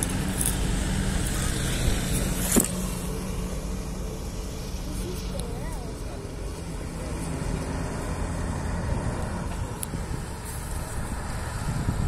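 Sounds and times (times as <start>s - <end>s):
engine humming low: 0.0s - 12.0s.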